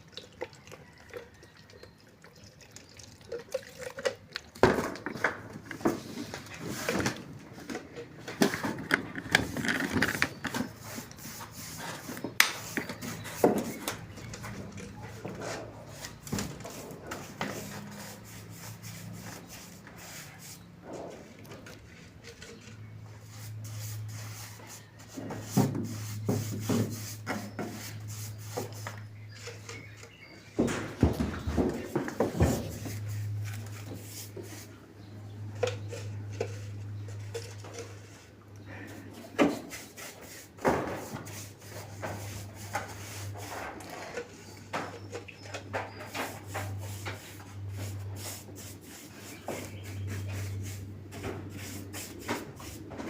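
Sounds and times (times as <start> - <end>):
scraping on wood: 4.7 - 53.0.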